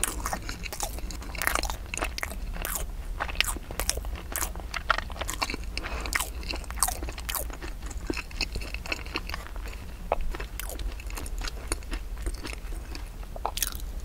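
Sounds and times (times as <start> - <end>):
wet chewing mouth clicks: 0.0 - 13.9.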